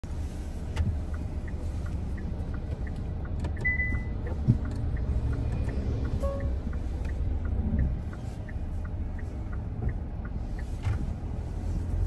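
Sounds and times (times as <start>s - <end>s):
car rumbling while moving: 0.0s - 12.0s
faint ticks: 0.2s - 12.0s.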